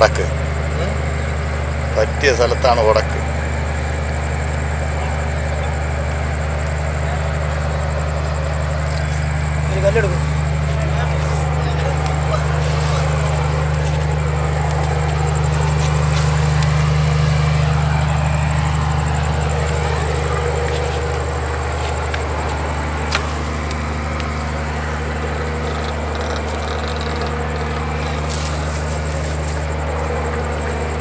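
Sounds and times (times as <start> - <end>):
steady low machine hum: 0.0 - 31.0.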